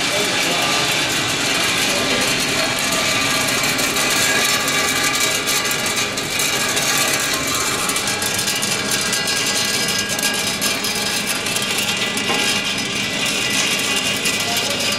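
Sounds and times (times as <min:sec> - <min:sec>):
nuts rattling through sorting machine: 0:00.0 - 0:14.9.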